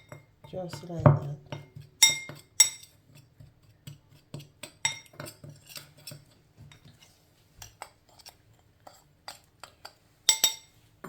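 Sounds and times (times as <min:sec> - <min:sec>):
metal spoon clinking against bowl: 0:00.0 - 0:06.9, 0:07.6 - 0:10.8.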